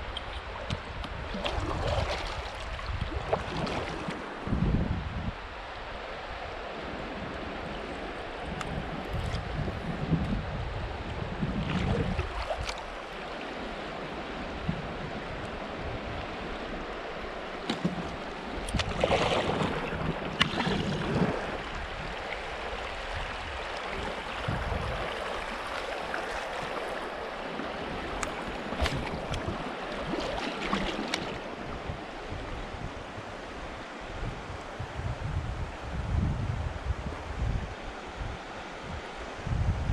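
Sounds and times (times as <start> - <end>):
river current rushing and splashing: 0.0 - 34.6
wind rumble on microphone: 0.0 - 39.9.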